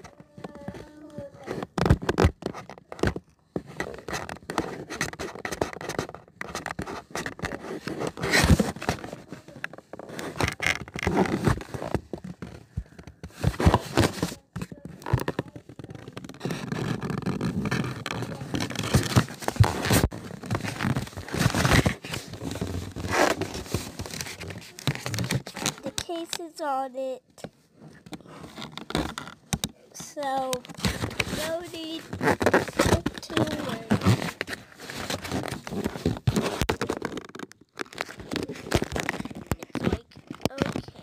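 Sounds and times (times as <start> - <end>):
scraping and rubbing handling noises: 0.0 - 41.0.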